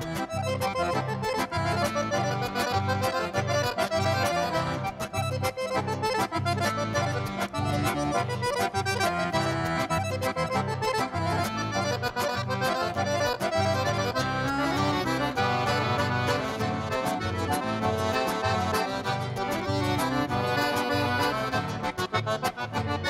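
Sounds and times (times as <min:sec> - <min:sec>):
accordion playing fast melody: 0:00.0 - 0:23.0
pulsing bass accompaniment: 0:00.0 - 0:23.0.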